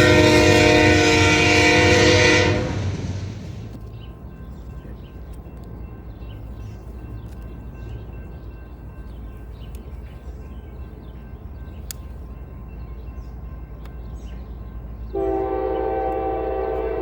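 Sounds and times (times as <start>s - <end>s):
train rumbling by: 0.0s - 17.0s.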